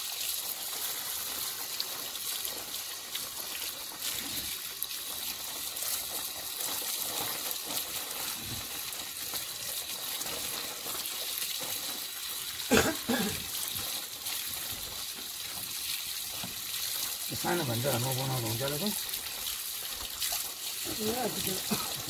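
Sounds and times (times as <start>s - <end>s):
water splashing from tap: 0.0s - 22.0s.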